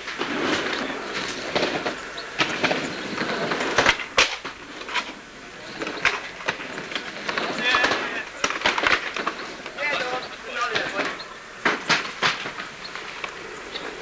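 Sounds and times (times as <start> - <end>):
skateboards clacking on ground: 0.0 - 14.0
skateboards rolling over paving: 0.0 - 14.0.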